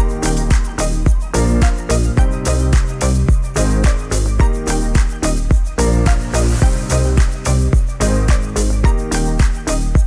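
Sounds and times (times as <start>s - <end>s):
dance music with pulsing bass: 0.0s - 10.0s.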